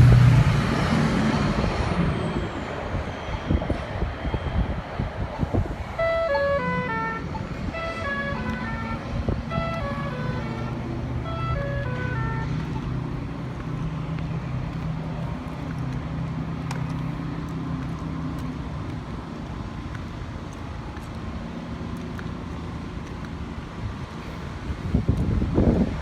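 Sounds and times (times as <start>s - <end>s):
city street traffic: 0.0s - 26.0s
low engine hum: 0.0s - 26.0s.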